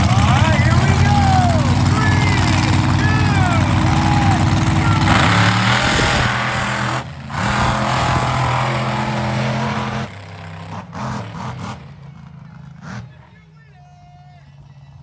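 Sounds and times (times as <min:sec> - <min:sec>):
engine throttle blips: 0:00.0 - 0:13.2
monster truck engines roaring: 0:00.0 - 0:15.0.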